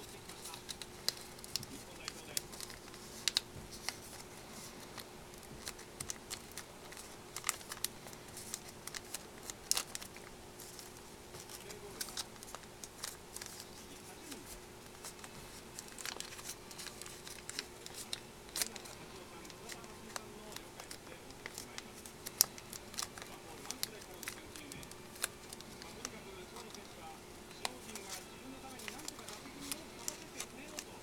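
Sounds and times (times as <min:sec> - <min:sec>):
faint steady hum: 0:00.0 - 0:31.0
paper creasing clicks: 0:00.0 - 0:31.0
paper crinkling and rustling: 0:00.0 - 0:31.0.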